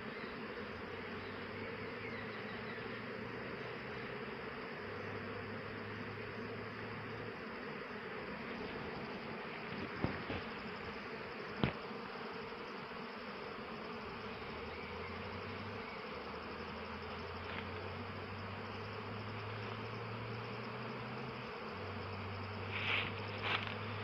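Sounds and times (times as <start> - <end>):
honey bees buzzing: 0.0 - 24.0.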